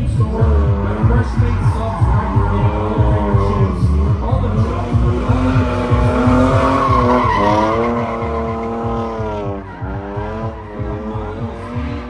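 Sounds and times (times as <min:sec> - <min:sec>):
car engine at high revs: 0:00.0 - 0:12.0
tyre squeal: 0:01.3 - 0:11.6.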